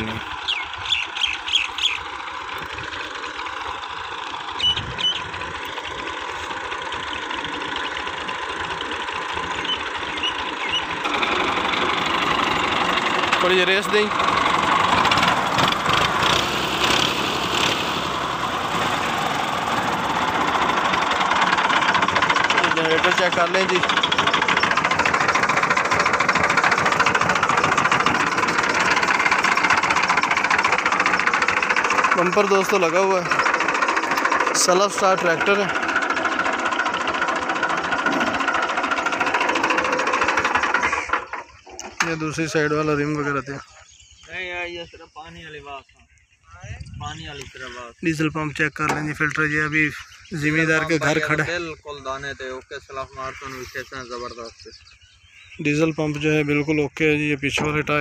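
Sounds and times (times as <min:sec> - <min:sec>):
tractor diesel engine drone: 0:00.0 - 0:45.7, 0:46.7 - 0:58.0.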